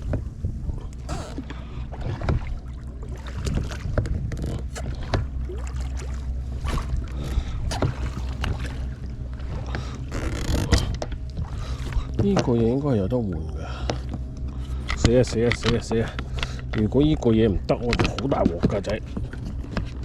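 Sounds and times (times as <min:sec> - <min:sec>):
low engine-like hum: 0:00.0 - 0:20.0.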